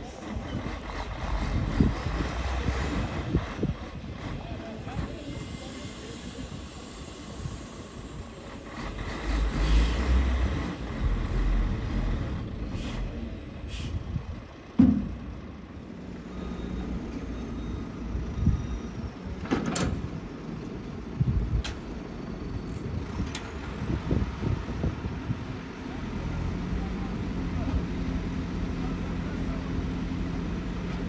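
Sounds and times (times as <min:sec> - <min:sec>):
diesel engines rumbling: 0:00.0 - 0:31.0.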